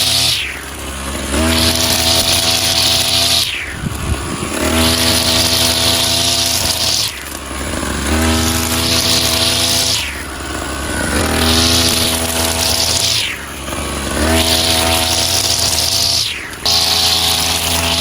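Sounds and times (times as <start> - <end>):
brush cutter engine revving: 0.0 - 18.0.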